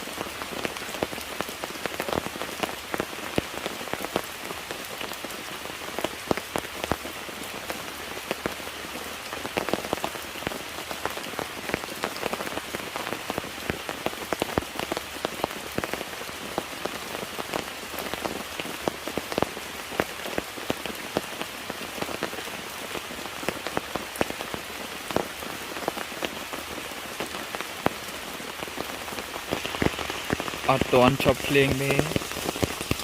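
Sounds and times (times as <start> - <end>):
raindrops pattering on surface: 0.0 - 33.0
steady rain: 0.0 - 33.0.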